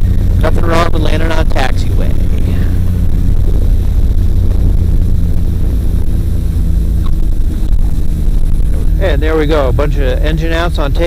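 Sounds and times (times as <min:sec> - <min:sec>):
engine low drone: 0:00.0 - 0:11.0
wind rushing over microphone: 0:00.0 - 0:11.0.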